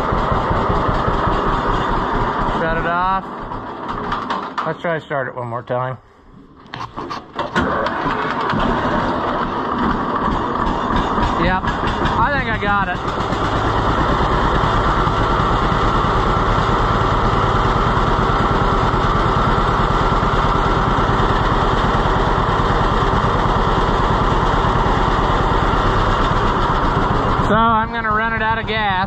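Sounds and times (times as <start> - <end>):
tractor engine running: 0.0 - 5.2, 6.4 - 29.0.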